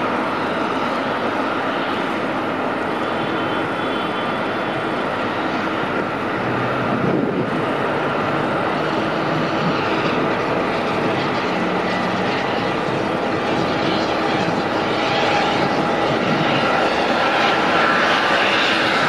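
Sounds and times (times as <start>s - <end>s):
jet aircraft noise: 0.0s - 19.0s.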